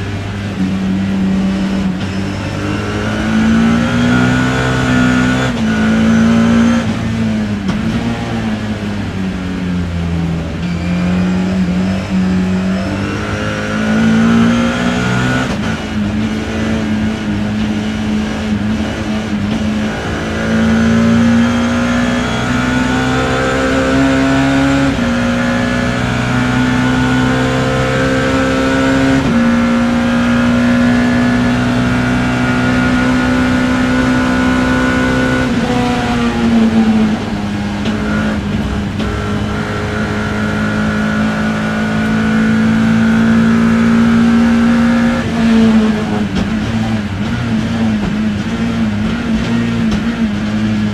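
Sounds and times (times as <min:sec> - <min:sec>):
racing engine revving: 0:00.0 - 0:50.9.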